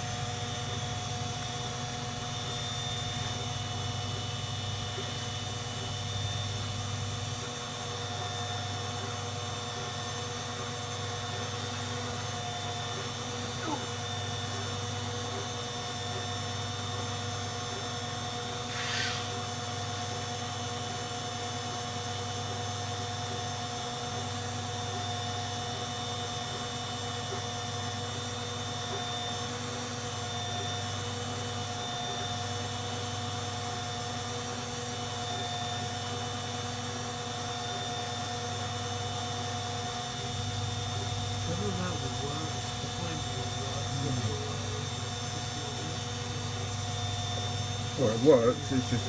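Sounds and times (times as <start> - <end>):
washing machine motor hum: 0.0 - 49.0.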